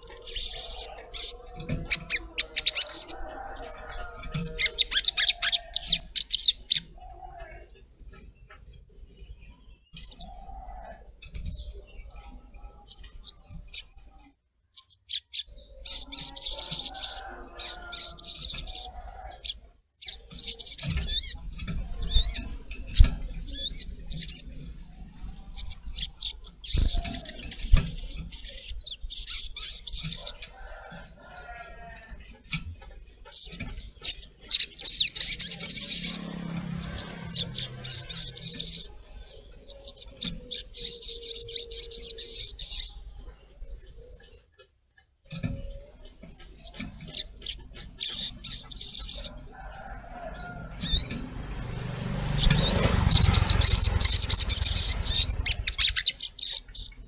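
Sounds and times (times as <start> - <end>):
bird chirping and twittering: 0.0 - 44.4, 45.3 - 57.0.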